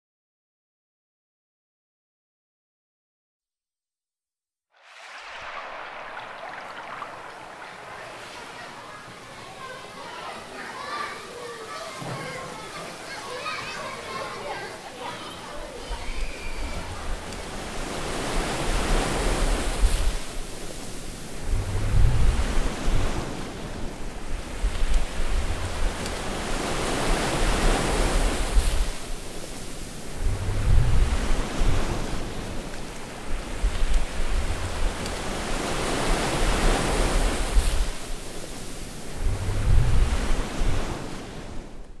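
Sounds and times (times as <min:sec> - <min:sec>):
low rumble of breaking waves: 0:04.8 - 0:11.6, 0:14.6 - 0:42.0
ocean waves breaking: 0:04.8 - 0:42.0.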